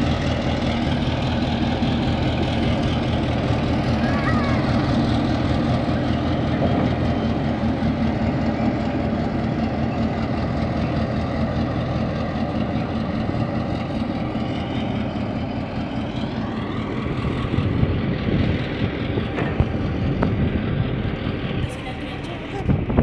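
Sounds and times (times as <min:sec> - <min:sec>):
diesel locomotive engine running: 0:00.0 - 0:23.0.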